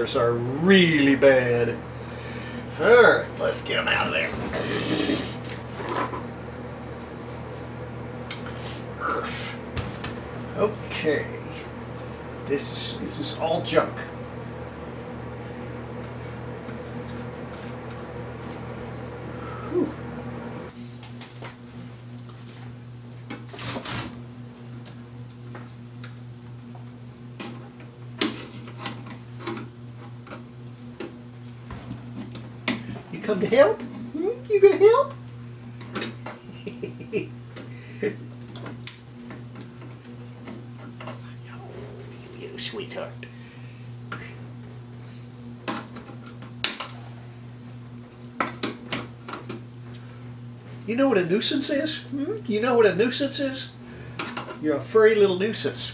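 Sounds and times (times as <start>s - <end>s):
low electrical hum: 0.0s - 55.9s.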